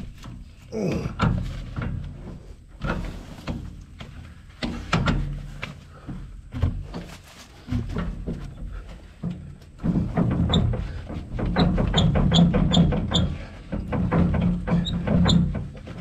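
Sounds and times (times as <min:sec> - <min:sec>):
metal clunks and knocks: 0:00.0 - 0:16.0.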